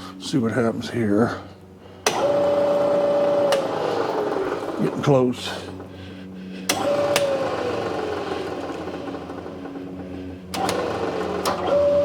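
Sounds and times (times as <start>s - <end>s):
lathe motor whine: 1.0s - 12.0s.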